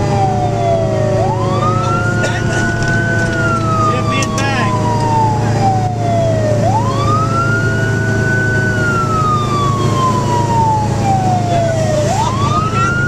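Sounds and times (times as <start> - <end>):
fire engine siren wailing: 0.0 - 13.0
low engine drone: 0.0 - 13.0.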